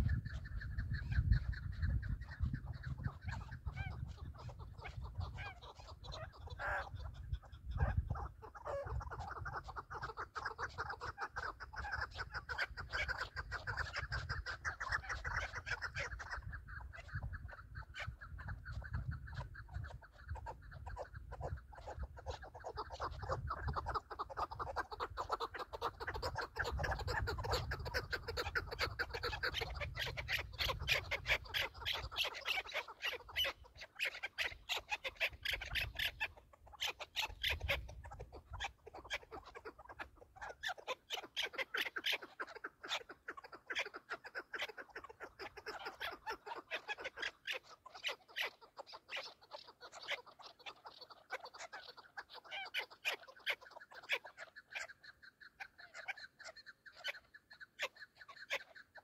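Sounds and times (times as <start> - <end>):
partridges calling: 0.0 - 59.0.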